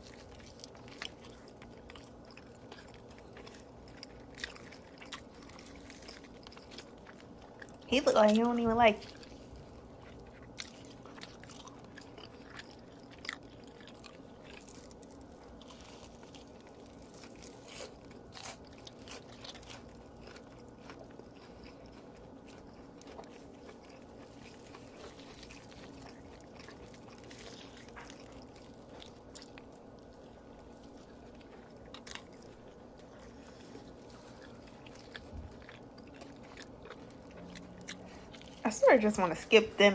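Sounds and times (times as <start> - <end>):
mouth clicks and crunches: 0.0 - 8.3, 9.0 - 38.7
person chewing close to microphone: 0.0 - 39.7
faint steady hum: 0.0 - 39.9.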